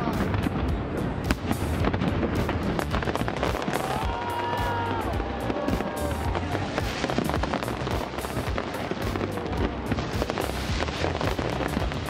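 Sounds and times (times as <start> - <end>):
fireworks crackling: 0.0 - 12.0
fireworks deep booms: 0.0 - 12.0
music: 0.0 - 12.0.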